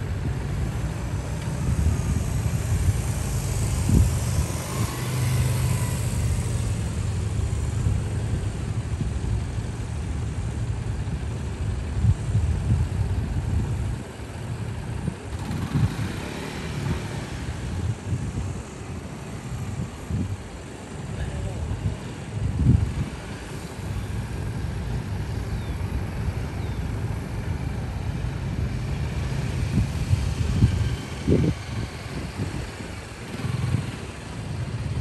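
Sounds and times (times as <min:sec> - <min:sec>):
small motorcycle engines passing: 0:00.0 - 0:35.0.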